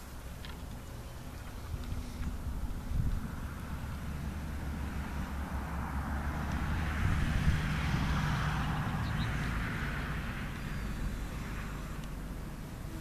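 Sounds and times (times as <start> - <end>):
steady low rumble: 0.0 - 13.0
wind turbine blades whooshing: 1.5 - 13.0.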